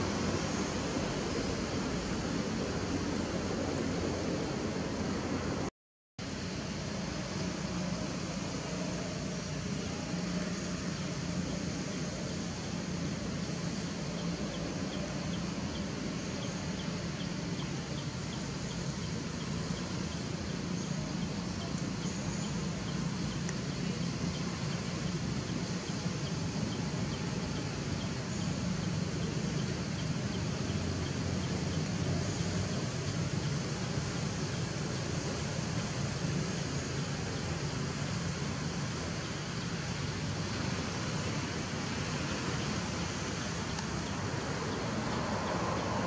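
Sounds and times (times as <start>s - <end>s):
even hiss: 0.0s - 46.0s.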